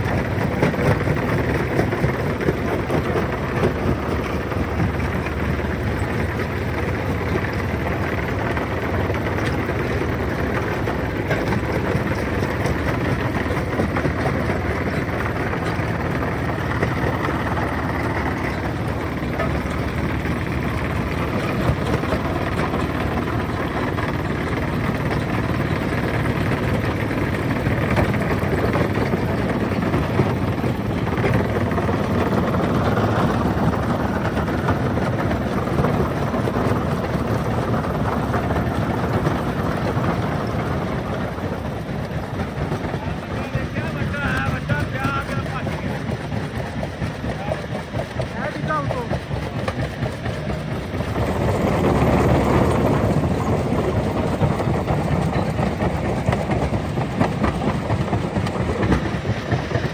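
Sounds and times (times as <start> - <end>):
stone-crushing machinery running: 0.0 - 59.9.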